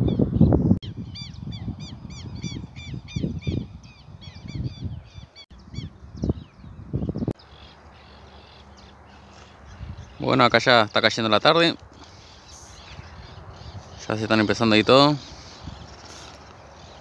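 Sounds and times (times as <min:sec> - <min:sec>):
birds calling in short notes: 0:00.1 - 0:17.0.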